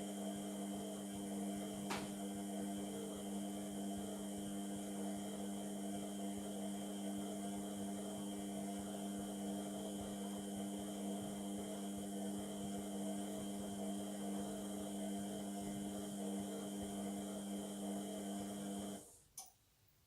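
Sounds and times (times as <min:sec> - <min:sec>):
washing machine humming: 0:00.0 - 0:19.2.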